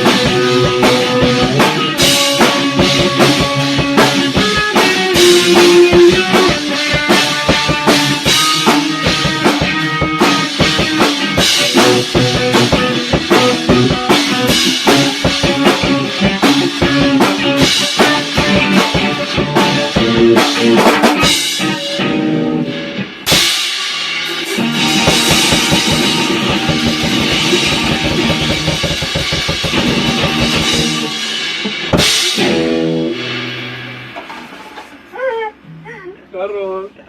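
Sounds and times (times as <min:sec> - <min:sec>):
bass drum and snare hits: 0:00.0 - 0:21.4, 0:24.6 - 0:34.4
rock band playing: 0:00.0 - 0:35.7
guitar: 0:00.0 - 0:37.0.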